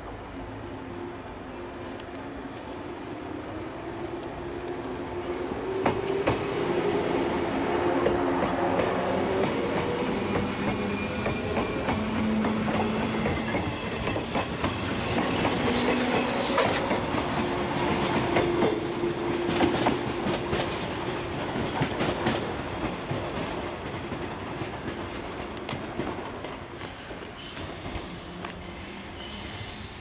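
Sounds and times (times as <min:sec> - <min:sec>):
electric train hum: 0:00.0 - 0:30.0
train wheels clicking over rail joints: 0:05.7 - 0:29.9.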